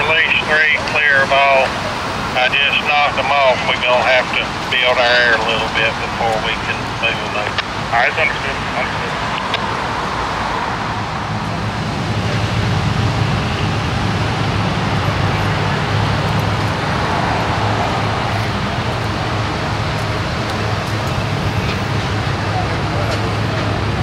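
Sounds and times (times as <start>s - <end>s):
traffic noise: 0.0s - 24.0s
vehicle engine: 0.0s - 24.0s.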